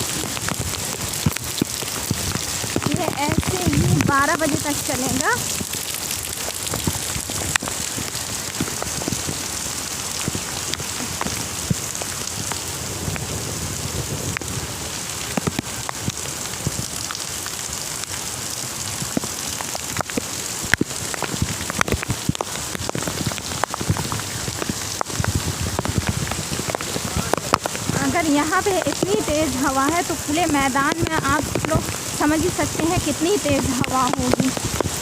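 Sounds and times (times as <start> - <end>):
gusting wind: 0.0 - 17.1, 20.6 - 35.0
heavy rain pouring: 0.0 - 35.0.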